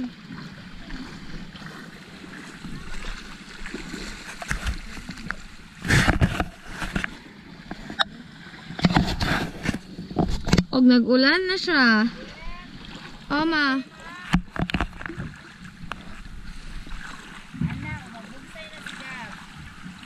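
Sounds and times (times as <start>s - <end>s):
sea water sloshing around wader: 0.0s - 20.0s.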